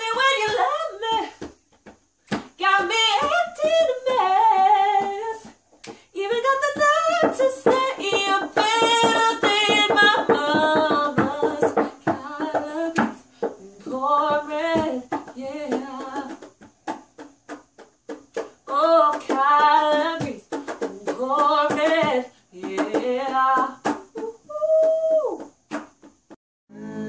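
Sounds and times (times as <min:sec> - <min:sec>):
woman singing: 0:00.0 - 0:01.5, 0:02.4 - 0:16.6, 0:18.6 - 0:25.5, 0:26.7 - 0:27.0.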